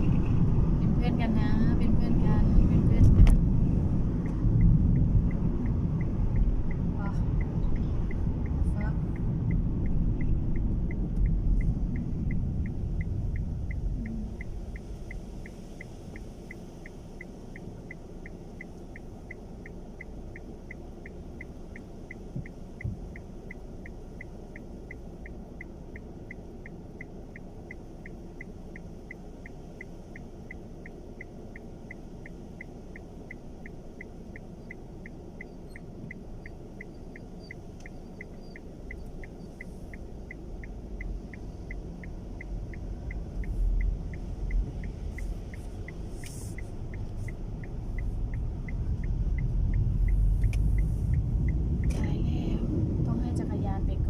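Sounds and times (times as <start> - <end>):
car engine and road rumble: 0.0 - 54.0
turn signal ticking: 0.0 - 54.0.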